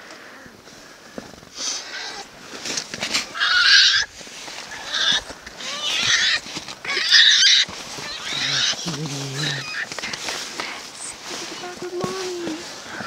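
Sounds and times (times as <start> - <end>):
bear cubs squalling: 0.8 - 13.0.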